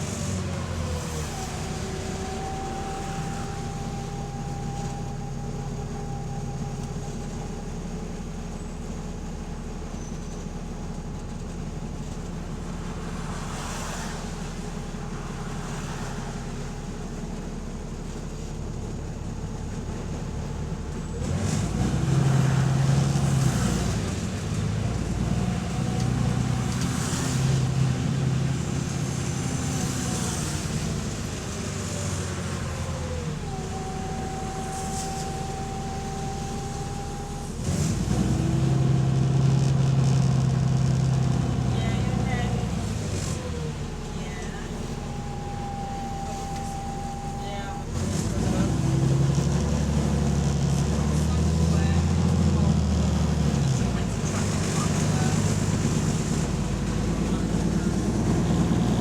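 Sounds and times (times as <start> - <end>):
diesel bus engine running: 0.0 - 59.0.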